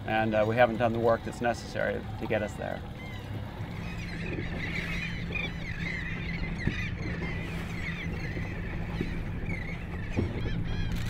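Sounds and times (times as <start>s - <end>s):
boat motor hum: 0.0s - 11.0s
seabird colony calls: 0.0s - 11.0s.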